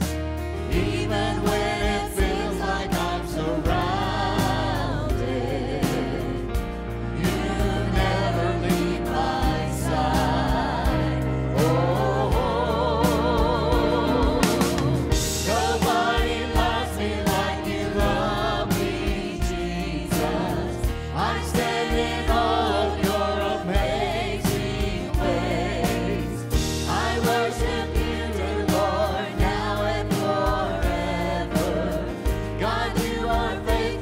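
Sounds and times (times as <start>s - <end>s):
drum kit steady beat: 0.0s - 34.0s
group of singers singing: 0.0s - 34.0s
keyboard accompaniment: 0.0s - 34.0s.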